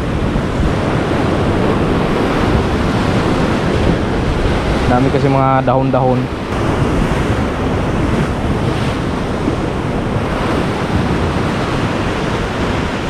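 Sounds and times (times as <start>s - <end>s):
surf breaking against rocks: 0.0s - 13.0s
wind buffeting microphone: 0.0s - 13.0s.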